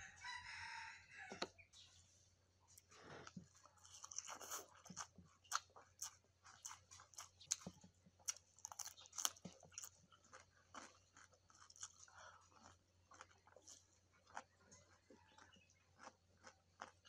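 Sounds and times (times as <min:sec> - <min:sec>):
cucumber crunching: 0:02.8 - 0:17.0.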